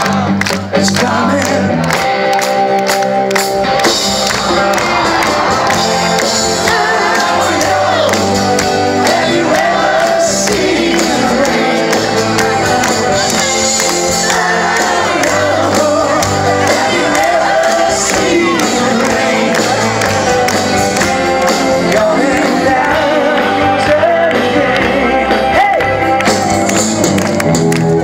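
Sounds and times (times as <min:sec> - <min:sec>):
lead vocal singing: 0:00.0 - 0:01.9, 0:04.6 - 0:26.4
rock band playing live: 0:00.0 - 0:28.0.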